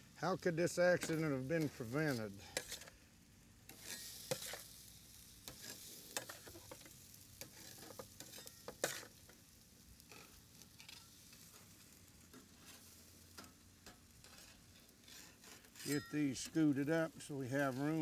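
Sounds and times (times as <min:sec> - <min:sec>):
fish sizzling on a grill: 0:00.0 - 0:18.0
charcoal crackles and clicks: 0:00.4 - 0:18.0.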